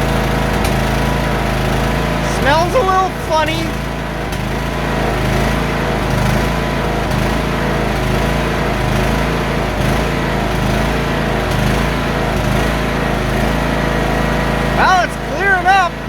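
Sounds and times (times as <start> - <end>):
lawnmower engine running: 0.0 - 16.0.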